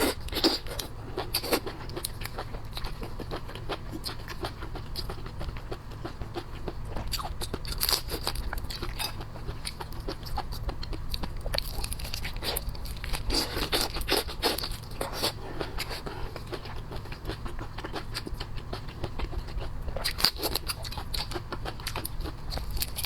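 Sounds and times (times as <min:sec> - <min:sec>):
crunching and chewing seafood: 0:00.0 - 0:23.0.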